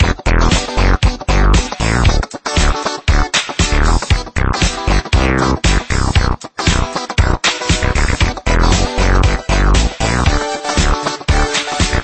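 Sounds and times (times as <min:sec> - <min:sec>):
upbeat electronic music: 0:00.0 - 0:12.0.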